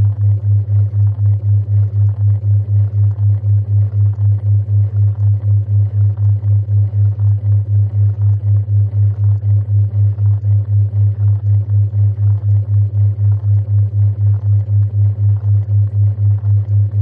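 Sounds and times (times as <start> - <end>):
low pulsing electronic tone: 0.0 - 17.0.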